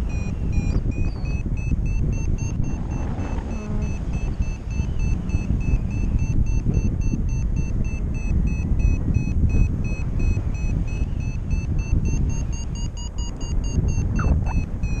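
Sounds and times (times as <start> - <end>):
variometer beeping: 0.0 - 15.0
wind buffeting microphone: 0.0 - 15.0.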